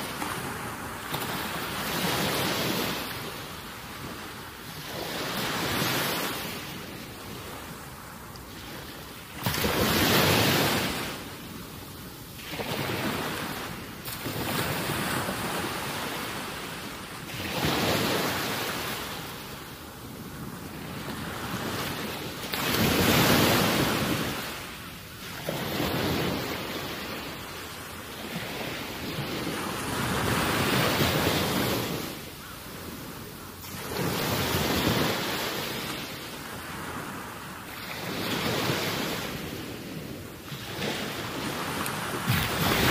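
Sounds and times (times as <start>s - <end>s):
small waves washing ashore: 0.0s - 42.9s.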